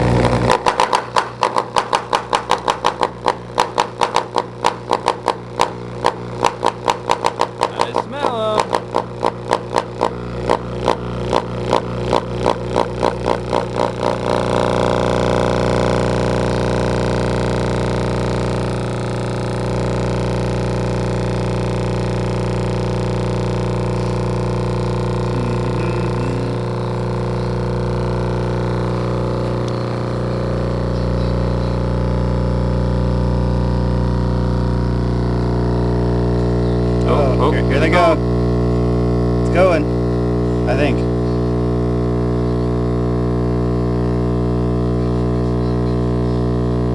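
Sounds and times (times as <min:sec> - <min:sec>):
subwoofers buzzing with mains hum: 0:00.0 - 0:46.9.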